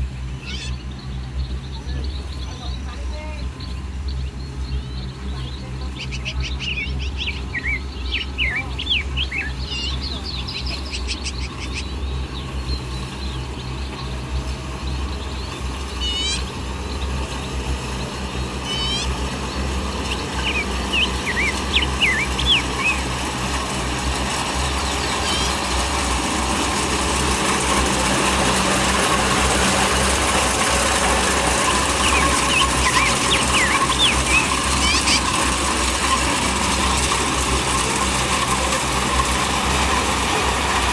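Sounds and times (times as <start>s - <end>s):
diesel engine running: 0.0s - 40.9s
machinery churning: 0.0s - 40.9s
small birds chirping: 0.0s - 40.9s.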